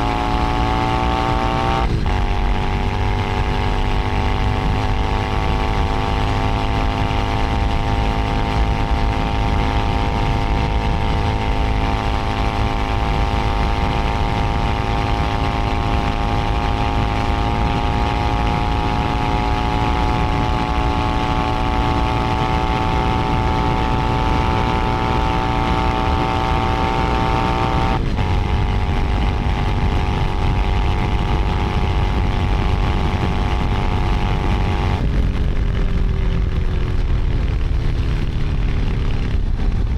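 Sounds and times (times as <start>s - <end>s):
motorcycle engine while riding: 0.0s - 39.9s
steady low rumble: 0.0s - 39.9s.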